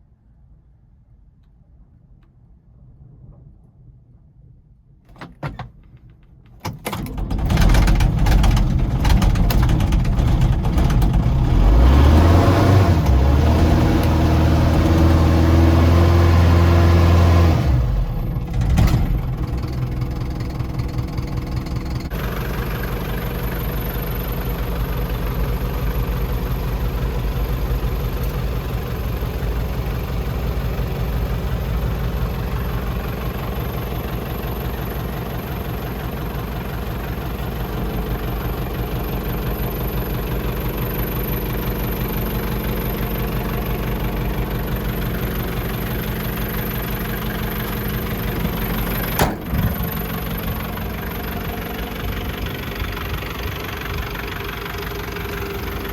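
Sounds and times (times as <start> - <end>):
diesel engine revving and idling: 7.4 - 55.9.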